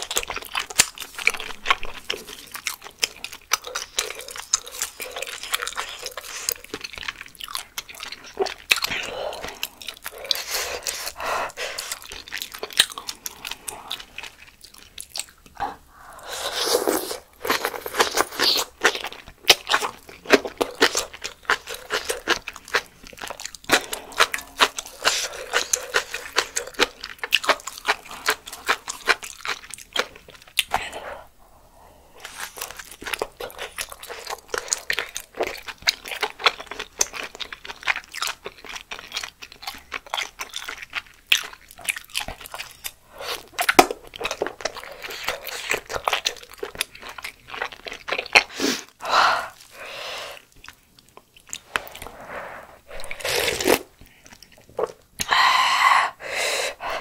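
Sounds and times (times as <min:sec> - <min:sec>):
crunching and chewing: 0:00.0 - 0:31.0, 0:32.1 - 0:55.3.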